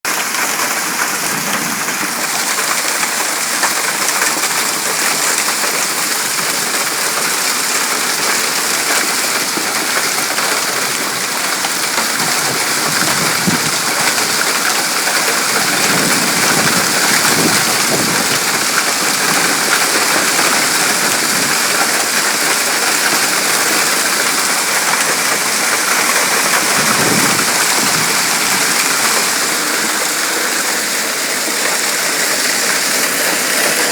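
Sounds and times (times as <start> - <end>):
hail and heavy rain pelting: 0.0 - 33.9.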